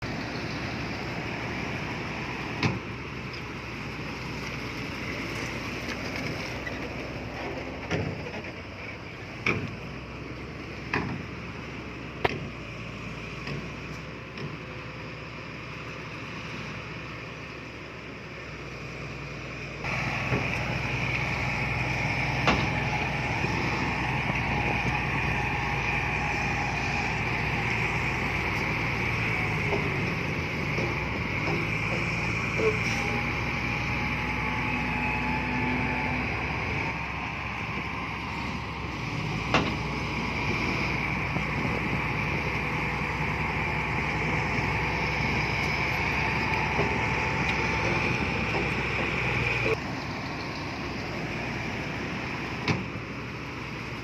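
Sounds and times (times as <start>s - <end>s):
diesel earthmoving machinery running: 0.0s - 54.0s.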